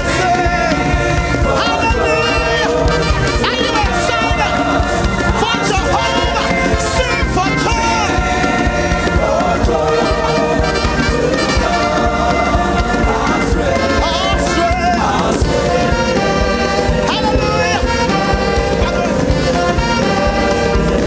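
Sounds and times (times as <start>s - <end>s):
band playing over a beat: 0.0s - 21.0s
choir singing: 0.0s - 21.0s.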